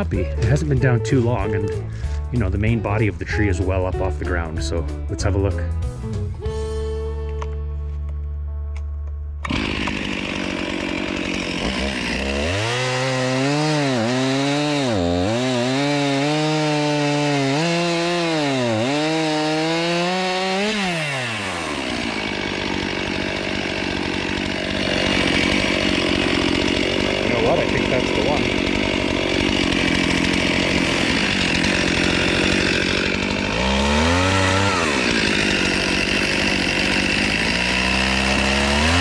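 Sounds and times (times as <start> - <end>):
chainsaw cutting log: 0.0 - 5.5, 9.4 - 39.0.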